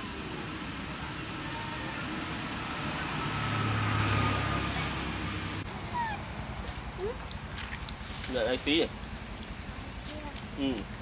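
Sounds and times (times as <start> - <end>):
traffic noise: 0.0 - 11.0
vehicle engine hum: 0.0 - 11.0.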